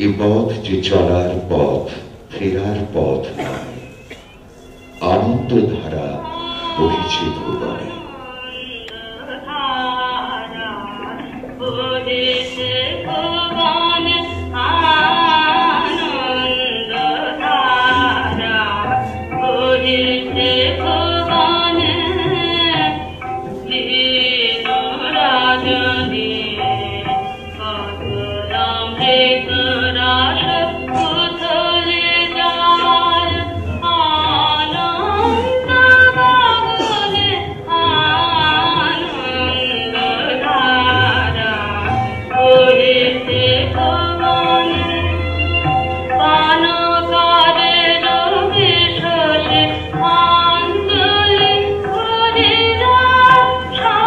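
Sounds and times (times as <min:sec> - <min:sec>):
person singing: 0:05.0 - 0:54.0.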